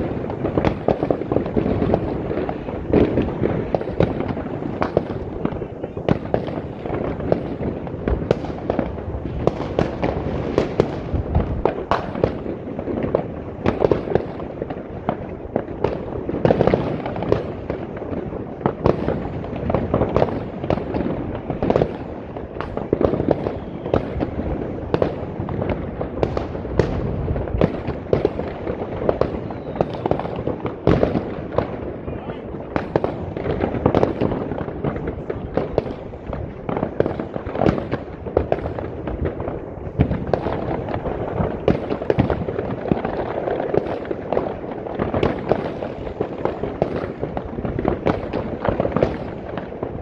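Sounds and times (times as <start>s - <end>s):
firecracker bangs and crackling: 0.0s - 50.0s.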